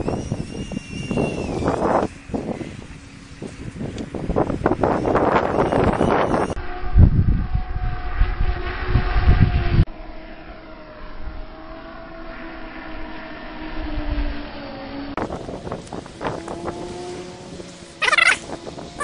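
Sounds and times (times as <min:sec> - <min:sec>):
drone motors buzzing: 0:00.0 - 0:19.0
wind rumble on microphone: 0:00.0 - 0:19.0.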